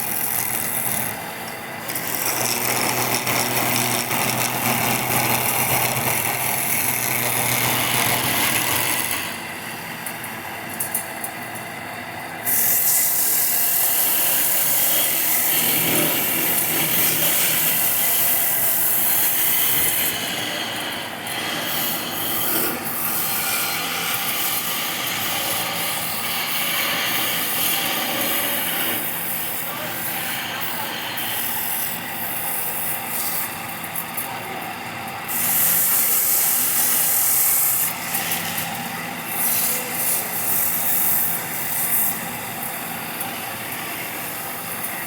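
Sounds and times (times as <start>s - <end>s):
power tools cutting and sanding wood: 0.0s - 9.5s, 12.5s - 32.1s, 35.3s - 42.3s.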